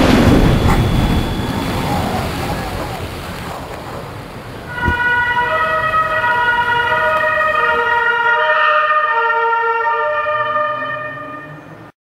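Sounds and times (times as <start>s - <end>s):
two-tone emergency sirens: 0.0s - 12.0s.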